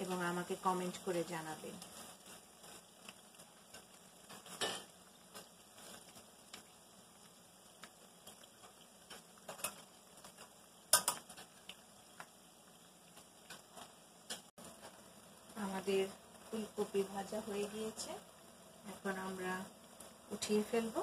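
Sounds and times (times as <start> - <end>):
food frying in hot oil: 0.0 - 21.0.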